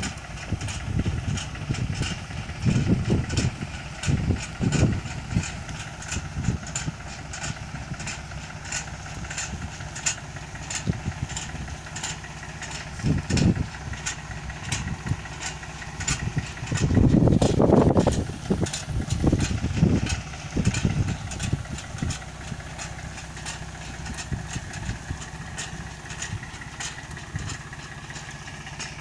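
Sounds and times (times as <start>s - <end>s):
machine engine running: 0.0s - 29.0s
regular ticking: 0.0s - 29.0s.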